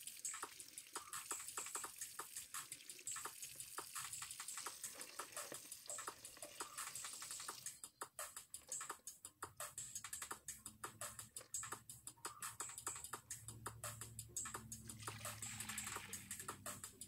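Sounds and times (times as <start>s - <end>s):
running tap water hiss: 0.0s - 17.0s.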